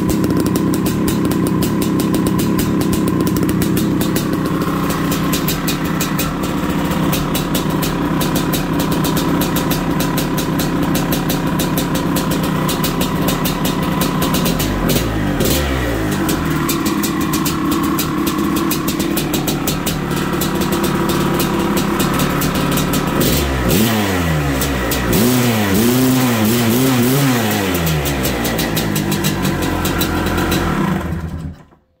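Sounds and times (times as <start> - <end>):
dirt bike engine idling and revving: 0.0 - 31.8.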